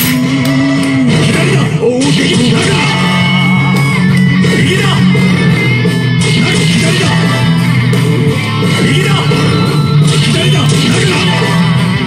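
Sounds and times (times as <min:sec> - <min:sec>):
loud rock music with guitar: 0:00.0 - 0:12.0.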